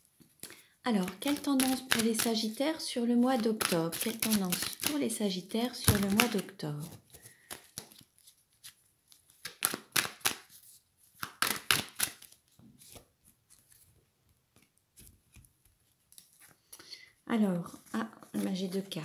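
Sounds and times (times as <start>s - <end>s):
cards being shuffled: 0.2s - 5.1s, 5.7s - 16.7s, 17.7s - 19.0s.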